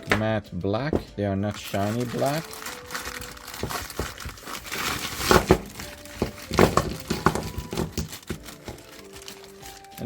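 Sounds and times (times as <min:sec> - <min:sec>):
packaging wrap crinkling: 0:01.4 - 0:10.0.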